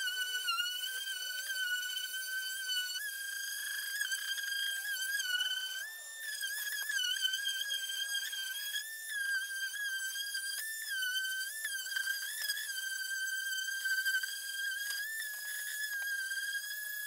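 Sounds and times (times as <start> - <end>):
orbital sander whine: 0.0 - 17.0.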